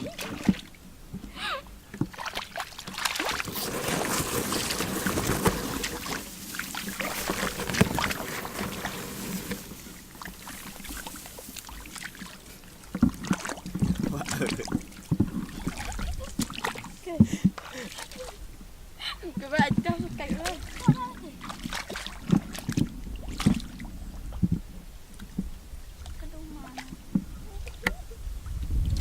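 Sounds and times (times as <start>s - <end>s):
water sloshing and splashing: 0.0s - 18.6s, 19.3s - 28.0s.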